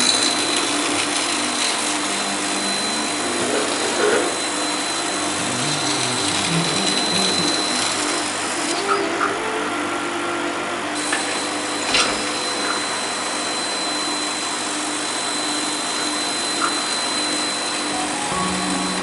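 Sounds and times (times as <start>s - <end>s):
fan and motor whirring: 0.0s - 19.0s.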